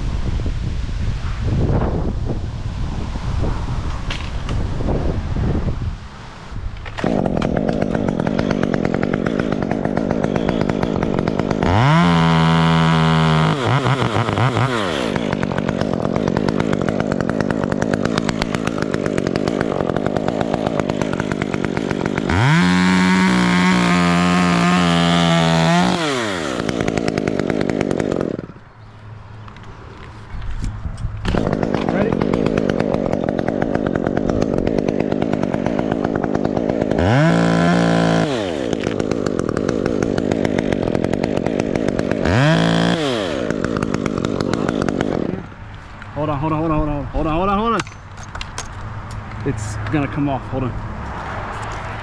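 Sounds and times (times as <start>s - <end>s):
chainsaw idling and revving: 6.8s - 52.0s.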